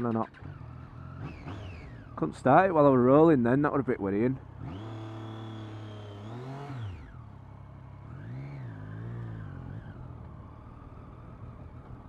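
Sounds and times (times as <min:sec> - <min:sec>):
motorcycle engine revving: 0:00.0 - 0:12.0
road noise: 0:00.0 - 0:12.0.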